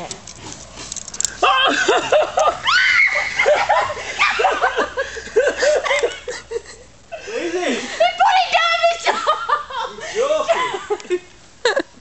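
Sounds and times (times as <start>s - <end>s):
woman laughing hard: 1.4s - 8.3s, 9.0s - 12.0s.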